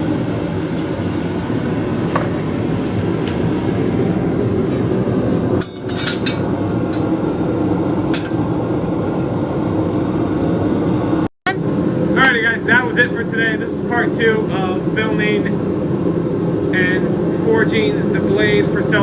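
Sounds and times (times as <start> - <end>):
low roar of workshop noise: 0.0 - 19.0.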